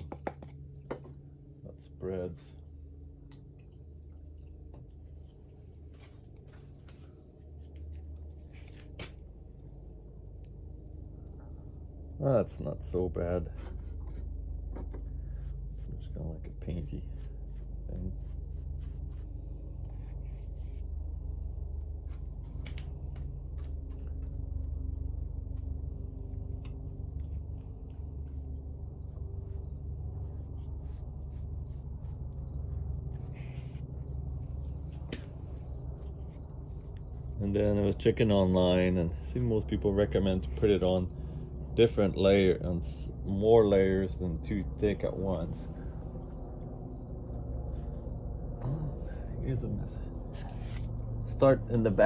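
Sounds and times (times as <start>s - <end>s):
paintbrush dabbing ticks and scrapes: 0.0s - 47.2s, 49.1s - 52.0s
steady low hum: 0.0s - 52.0s
low rumble: 2.4s - 52.0s.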